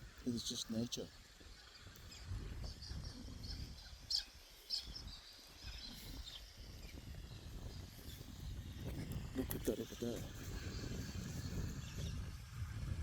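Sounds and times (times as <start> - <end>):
small birds chirping: 0.2 - 12.1.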